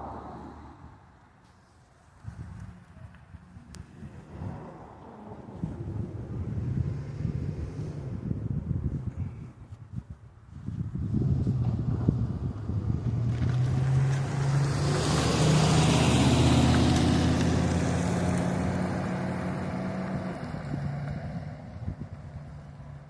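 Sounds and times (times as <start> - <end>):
engine passing by: 0.0 - 1.1, 2.6 - 9.3, 10.9 - 23.0.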